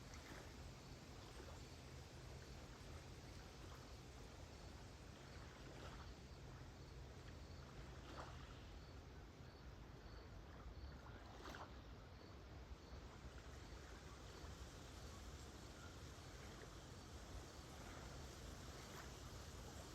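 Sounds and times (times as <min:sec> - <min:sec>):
lake waves lapping on shore: 0:00.0 - 0:09.4, 0:10.3 - 0:19.9
faint cricket chirping: 0:00.0 - 0:19.9.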